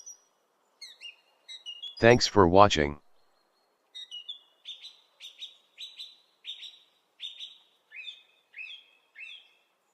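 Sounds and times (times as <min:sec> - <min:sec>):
bird chirping: 0:00.0 - 0:02.2, 0:03.0 - 0:09.9.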